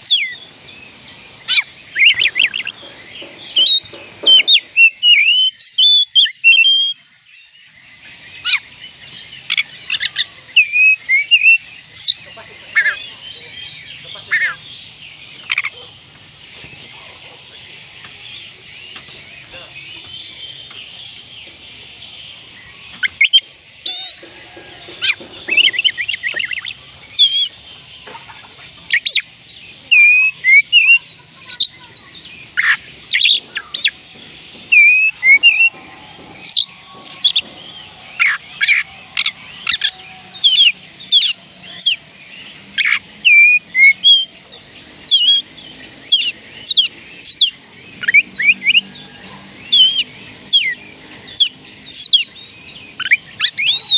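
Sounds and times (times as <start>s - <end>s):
bird singing whistled notes: 0.0s - 28.1s, 28.8s - 53.9s.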